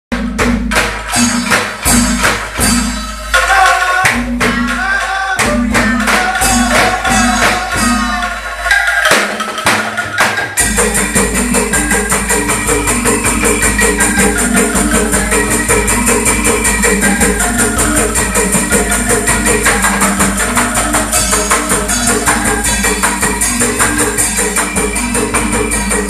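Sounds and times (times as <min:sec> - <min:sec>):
bamboo tubes struck rhythmically: 0:00.1 - 0:26.0.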